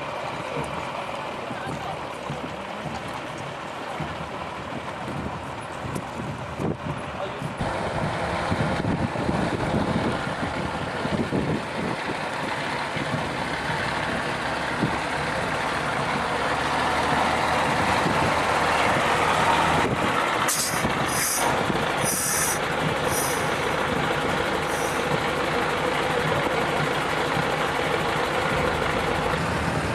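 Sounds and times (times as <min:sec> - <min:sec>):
fire truck diesel engines: 0:00.0 - 0:29.9.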